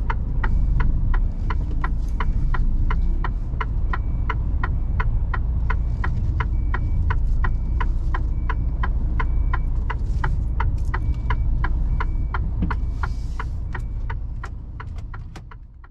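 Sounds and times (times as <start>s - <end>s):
diesel engine running: 0.0s - 15.9s
indicator ticking: 0.0s - 15.9s.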